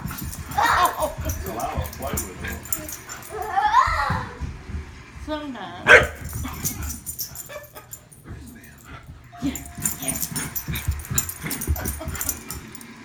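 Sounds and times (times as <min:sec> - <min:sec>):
dogs scuffling: 0:00.0 - 0:13.0.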